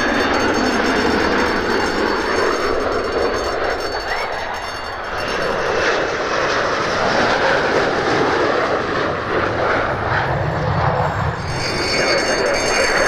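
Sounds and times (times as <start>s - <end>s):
fighter jet engines: 0.0s - 13.0s.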